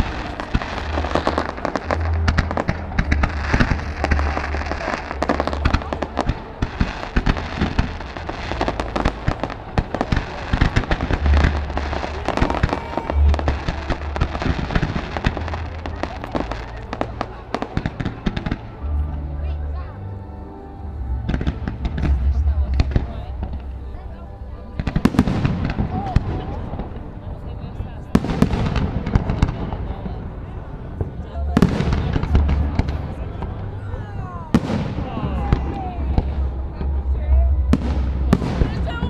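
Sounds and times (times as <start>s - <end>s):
fireworks bursting and crackling: 0.0s - 18.6s, 24.8s - 36.8s, 37.7s - 39.0s.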